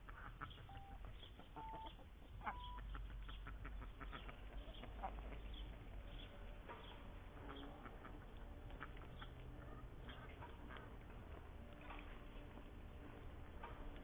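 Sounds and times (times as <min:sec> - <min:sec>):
birds chirping: 0:00.0 - 0:14.0
poultry clucking: 0:00.0 - 0:14.0.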